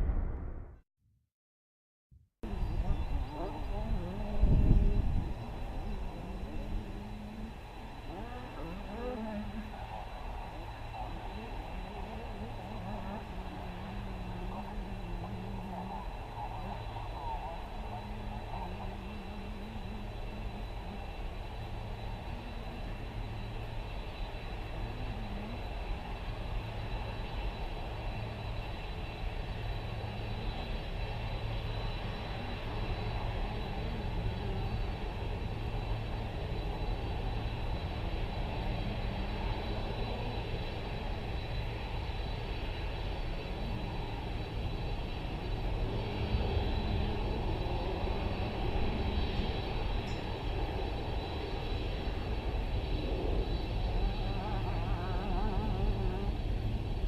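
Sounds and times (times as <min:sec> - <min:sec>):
jet engines roaring: 0:02.4 - 0:57.0.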